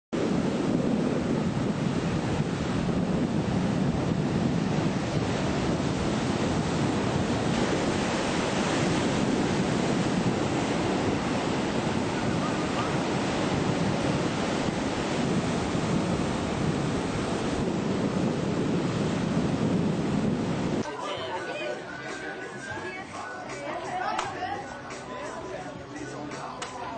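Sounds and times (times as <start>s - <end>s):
wind on microphone: 0.2s - 24.9s
waves breaking and rushing: 0.2s - 26.9s.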